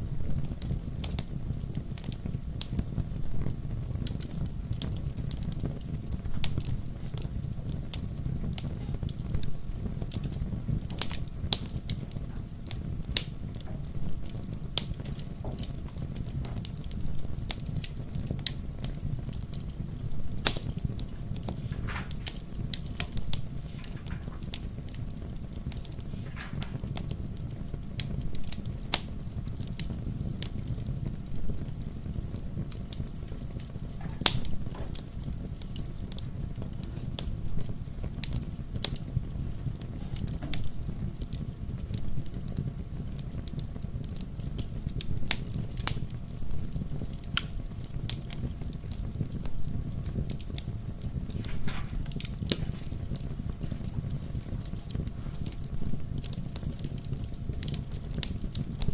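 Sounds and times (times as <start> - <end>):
fire crackling in fireplace: 0.0 - 58.9.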